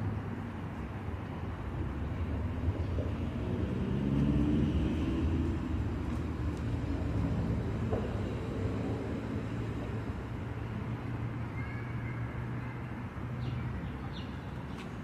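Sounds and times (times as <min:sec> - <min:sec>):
vehicle passing: 0:00.0 - 0:14.0
street traffic rumble: 0:00.0 - 0:15.0.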